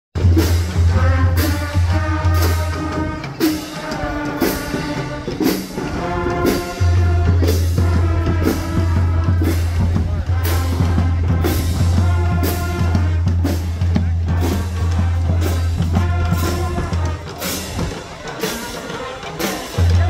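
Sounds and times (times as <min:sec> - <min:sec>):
pitched instrument notes: 0:00.2 - 0:20.0
steady drum beat: 0:00.2 - 0:20.0.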